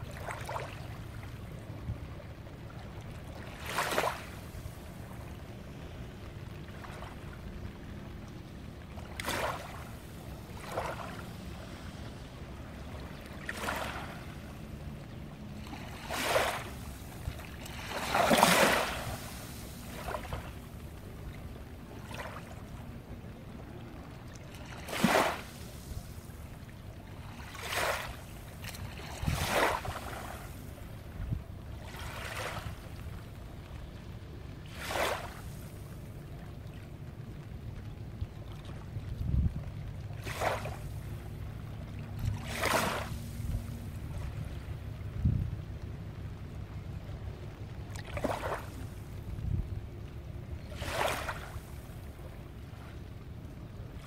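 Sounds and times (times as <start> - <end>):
low steady rumble: 0.0 - 54.0
small waves lapping on shore: 0.0 - 54.0.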